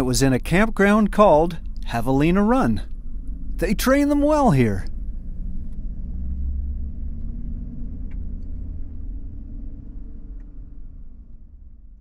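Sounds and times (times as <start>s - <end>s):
truck engine low rumble: 0.0s - 12.0s.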